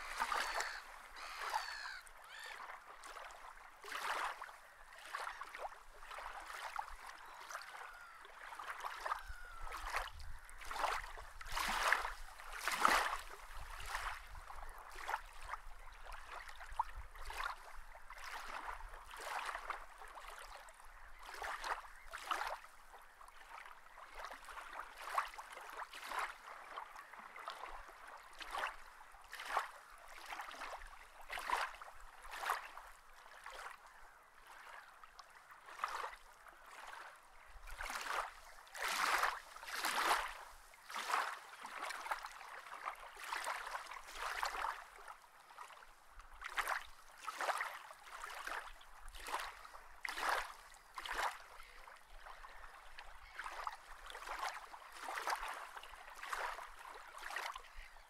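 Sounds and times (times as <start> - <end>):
water sloshing and splashing: 0.0 - 2.0, 2.6 - 7.6, 9.8 - 20.5, 23.5 - 33.8, 35.7 - 37.1, 37.7 - 57.8.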